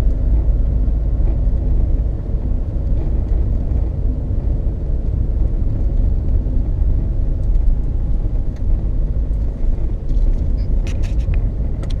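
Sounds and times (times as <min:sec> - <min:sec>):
tyre road noise drone: 0:00.0 - 0:12.0.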